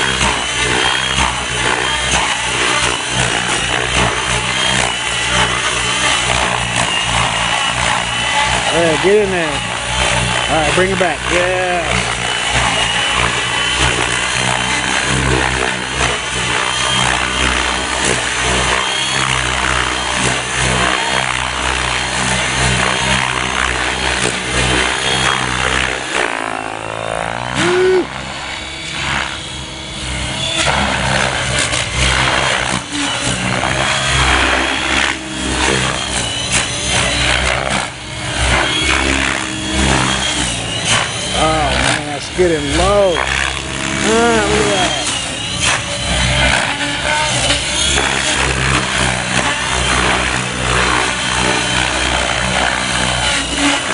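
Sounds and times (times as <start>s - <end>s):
rc helicopter motor whine: 0.0s - 53.9s
rotor blades chopping: 0.0s - 53.9s.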